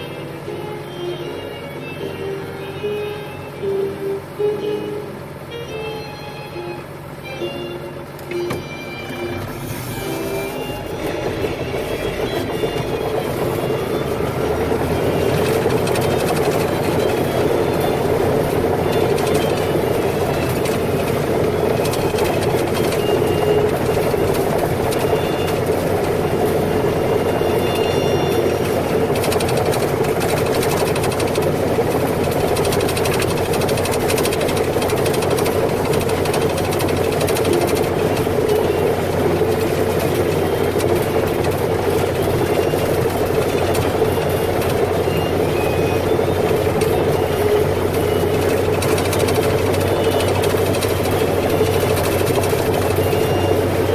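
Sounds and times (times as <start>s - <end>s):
heavy machinery engine running: 0.0s - 53.9s.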